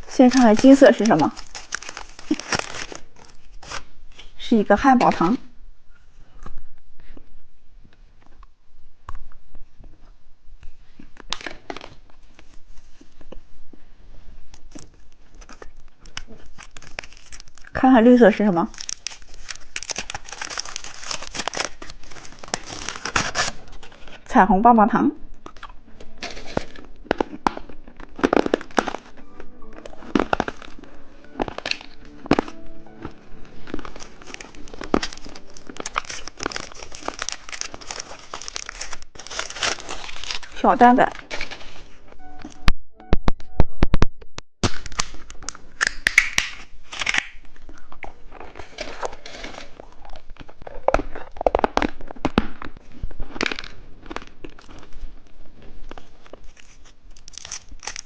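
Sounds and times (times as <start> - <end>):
plastic packaging clicks and crinkling: 0.0 - 4.4, 10.6 - 13.4, 14.5 - 24.3, 25.3 - 41.9, 44.6 - 58.0.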